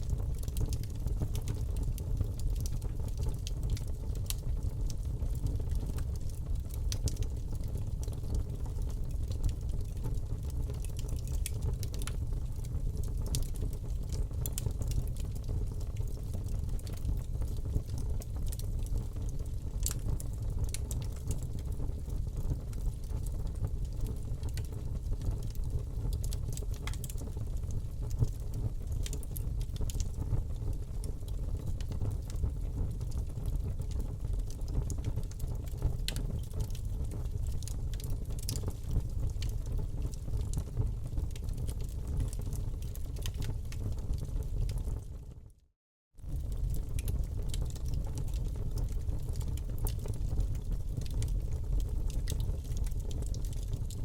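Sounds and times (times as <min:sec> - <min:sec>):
fire flames rumbling: 0:00.0 - 0:45.0, 0:46.2 - 0:54.0
fire crackles and pops: 0:00.0 - 0:45.2, 0:46.2 - 0:54.0.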